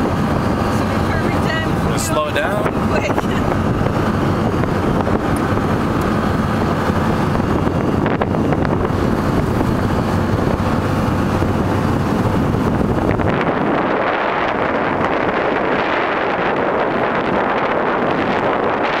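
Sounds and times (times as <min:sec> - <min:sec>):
motorboat engine running: 0:00.0 - 0:19.0
wind buffeting microphone: 0:00.0 - 0:19.0.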